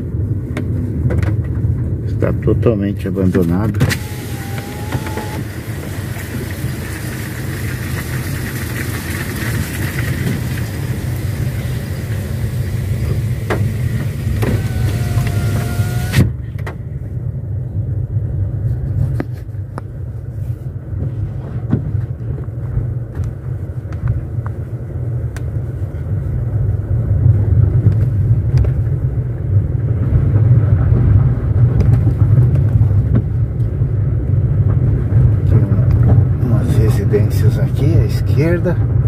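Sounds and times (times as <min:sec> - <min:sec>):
tyres and engine rumbling: 0:00.0 - 0:39.0.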